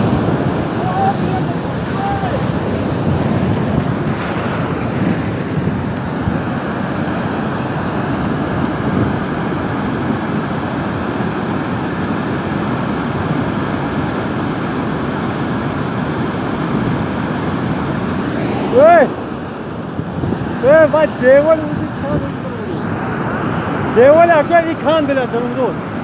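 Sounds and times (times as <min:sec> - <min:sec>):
muddy torrent rushing: 0:00.0 - 0:26.0.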